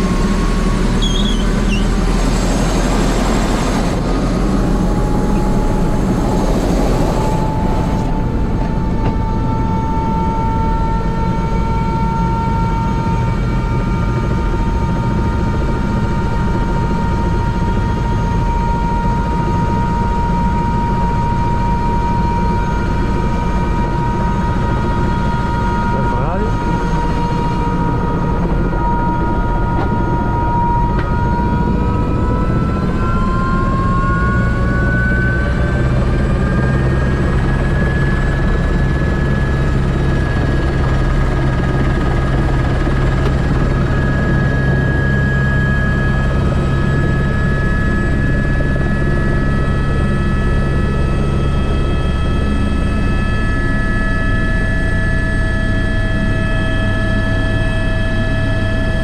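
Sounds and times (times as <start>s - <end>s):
helicopter rotor drone: 0.0s - 59.0s
turbine whine: 0.0s - 59.0s.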